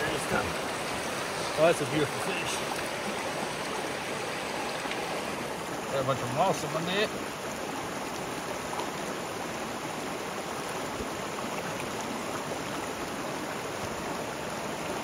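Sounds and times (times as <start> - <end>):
creek flowing over rocks: 0.0 - 15.0.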